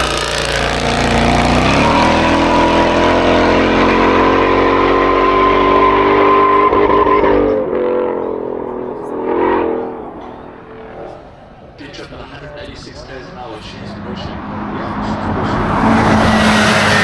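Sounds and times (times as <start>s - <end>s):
car engine at high revs: 0.0s - 11.8s, 13.5s - 17.0s.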